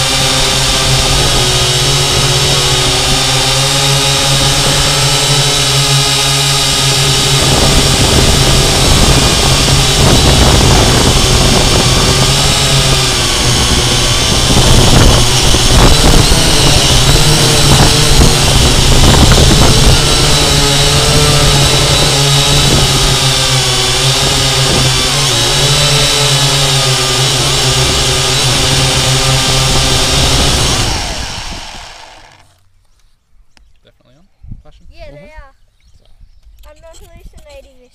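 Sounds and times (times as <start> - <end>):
drone motors whining: 0.0 - 32.7.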